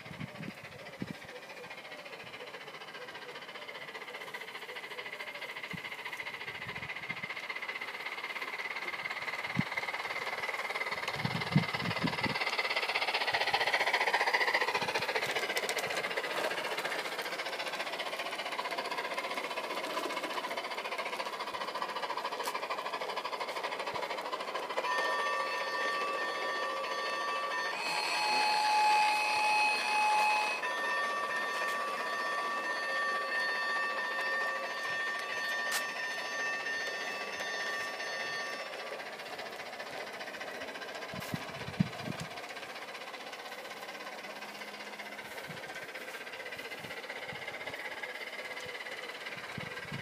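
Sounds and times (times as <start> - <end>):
model train wheels rolling on track: 0.0 - 50.0
steady high tones: 7.3 - 49.9.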